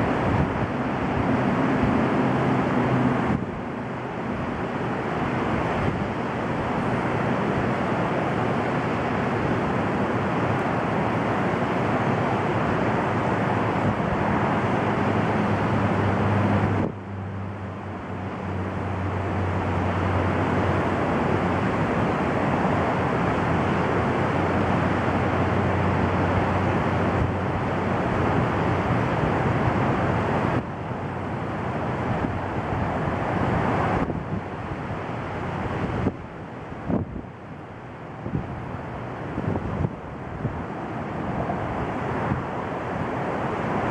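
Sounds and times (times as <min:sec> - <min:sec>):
highway traffic noise: 0:00.0 - 0:43.9
wind on microphone: 0:00.0 - 0:43.9.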